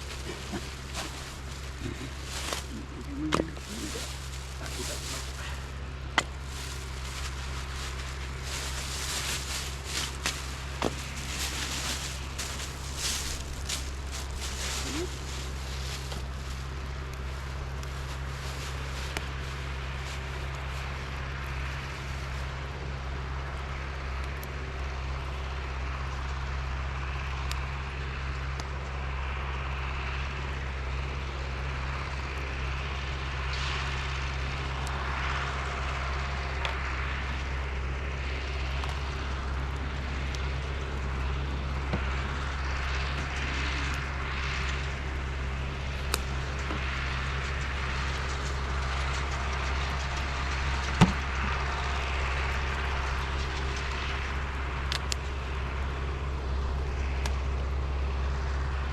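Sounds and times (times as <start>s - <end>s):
large engine humming: 0.0s - 58.9s.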